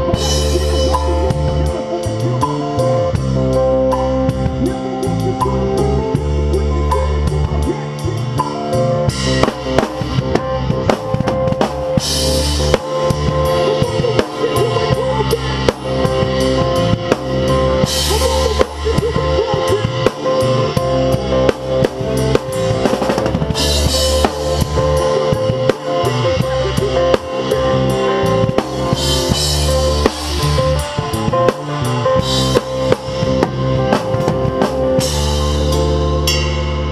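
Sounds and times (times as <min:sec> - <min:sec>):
bass and guitar: 0:00.0 - 0:36.9
rock drum kit: 0:00.0 - 0:36.9.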